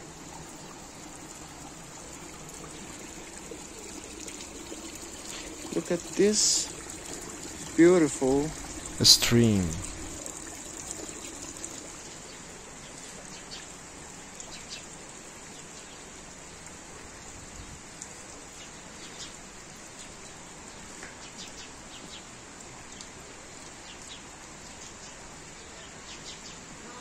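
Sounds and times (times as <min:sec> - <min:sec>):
stream trickling over stones: 0:00.0 - 0:26.8.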